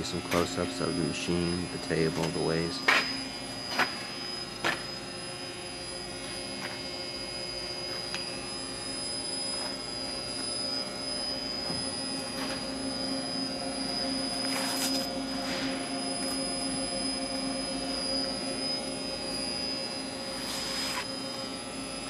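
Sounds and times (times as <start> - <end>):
milling machine humming and whining: 0.0 - 22.0.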